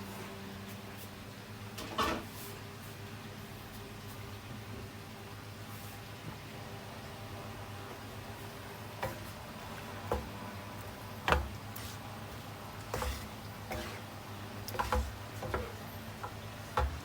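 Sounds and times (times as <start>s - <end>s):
spice paste frying in oil: 2.5s - 17.0s.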